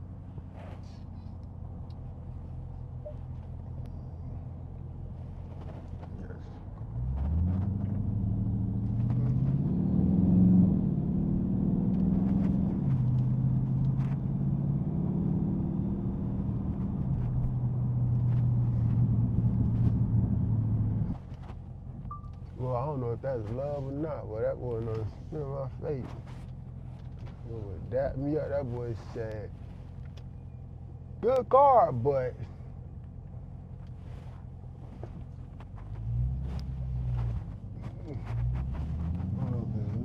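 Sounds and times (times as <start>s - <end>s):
car engine revving and pulling away: 5.1s - 40.0s.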